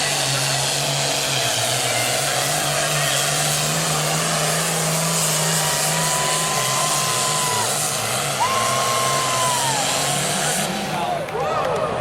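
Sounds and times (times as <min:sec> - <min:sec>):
diesel engine drone: 0:00.0 - 0:12.0
high turbo whine: 0:00.0 - 0:12.0.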